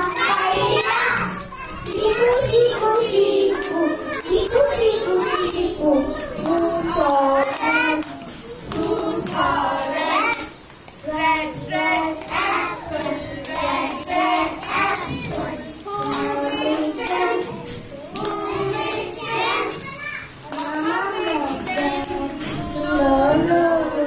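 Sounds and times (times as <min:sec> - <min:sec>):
young children singing: 0:00.0 - 0:24.0.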